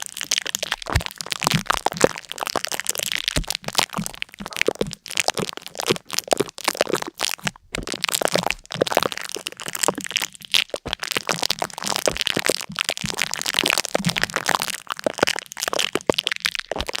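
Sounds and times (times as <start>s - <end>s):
crackling and crunching: 0.0s - 17.0s.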